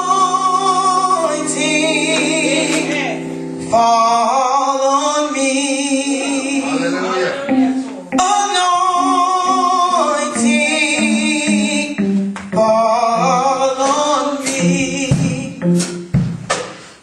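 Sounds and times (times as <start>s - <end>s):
women singing gospel in harmony: 0.0s - 5.0s, 5.9s - 11.8s, 12.6s - 15.5s.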